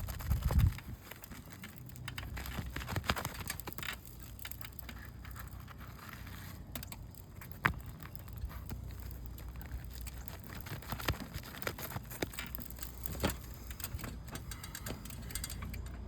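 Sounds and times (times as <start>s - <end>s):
shingle snapping: 0.0s - 15.8s
shingle crackling and scraping: 0.0s - 16.0s.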